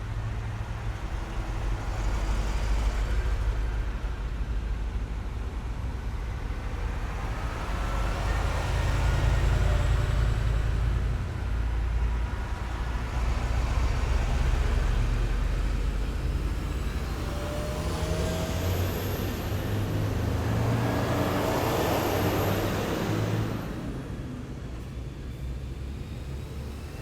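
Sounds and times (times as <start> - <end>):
military vehicles rumbling past: 0.0 - 27.0.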